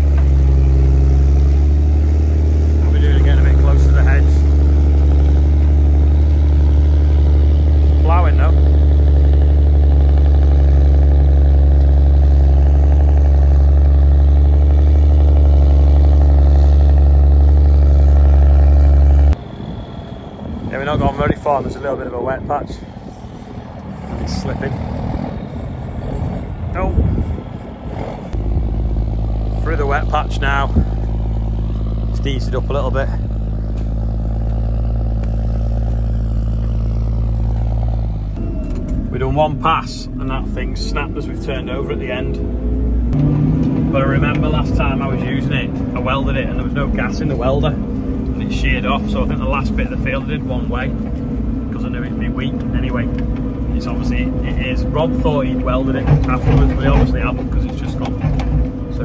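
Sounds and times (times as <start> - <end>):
large engine droning: 0.0 - 59.0.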